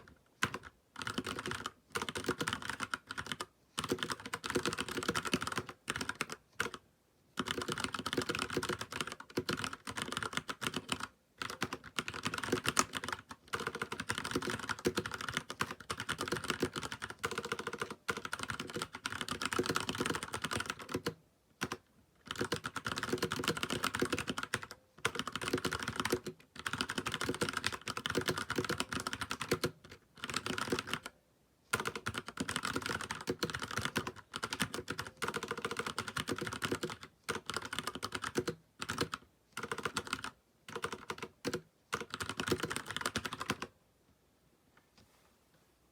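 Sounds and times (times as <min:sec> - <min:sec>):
mechanical keyboard typing: 0:00.0 - 0:06.8, 0:07.4 - 0:43.7.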